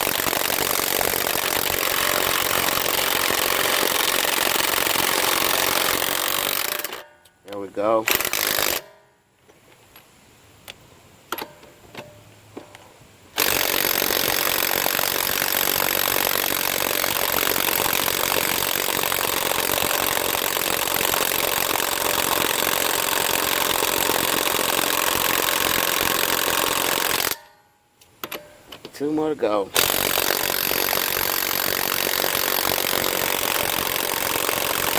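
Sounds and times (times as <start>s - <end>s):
impact wrench hammering: 0.0s - 7.3s, 8.0s - 9.1s, 13.4s - 29.1s, 29.7s - 34.9s.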